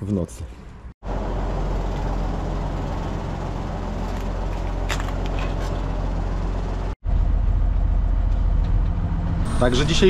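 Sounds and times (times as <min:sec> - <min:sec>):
engine running: 0:01.0 - 0:10.0.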